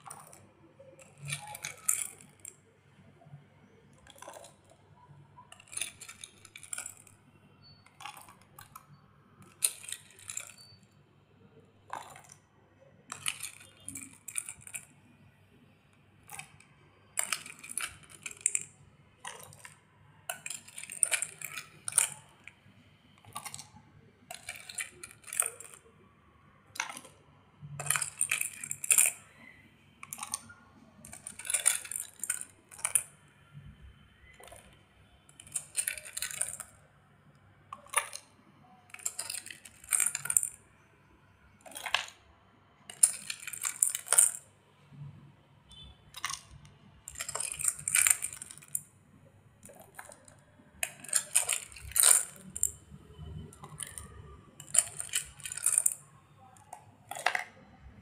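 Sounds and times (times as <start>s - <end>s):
beads clattering: 0.0s - 10.8s, 11.9s - 12.4s, 13.0s - 15.2s, 16.2s - 36.9s, 37.7s - 38.3s, 38.9s - 40.8s, 41.5s - 42.2s, 42.9s - 45.0s, 45.7s - 48.9s, 49.6s - 58.0s.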